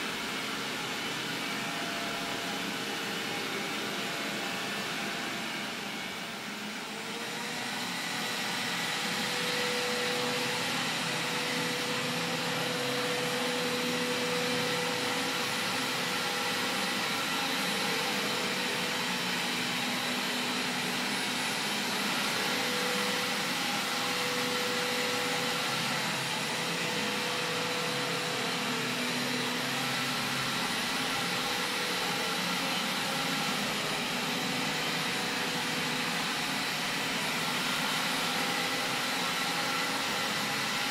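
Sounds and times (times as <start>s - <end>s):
robot vacuum cleaner whirring: 0.0s - 40.9s.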